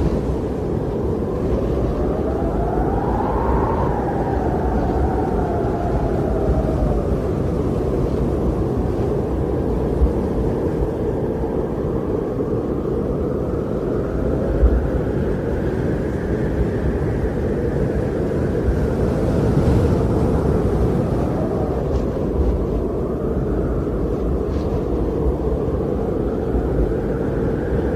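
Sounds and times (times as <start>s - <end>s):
wind blowing in snowstorm: 0.0s - 27.9s.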